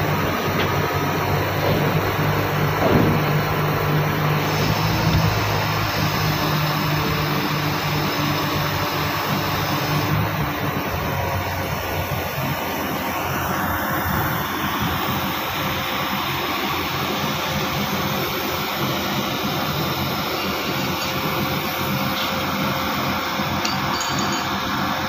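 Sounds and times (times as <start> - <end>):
drilling rig machinery running: 0.0 - 25.0.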